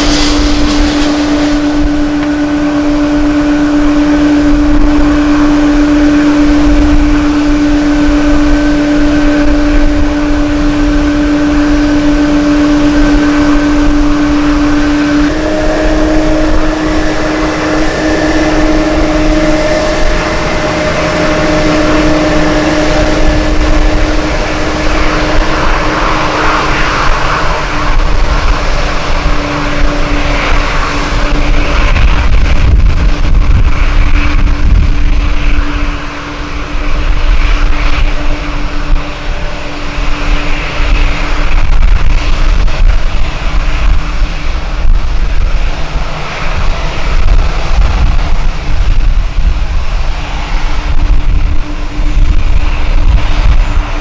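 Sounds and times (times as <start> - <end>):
broad rumble: 0.0 - 54.0
jet engine whine: 0.0 - 54.0
wind buffeting microphone: 0.0 - 54.0.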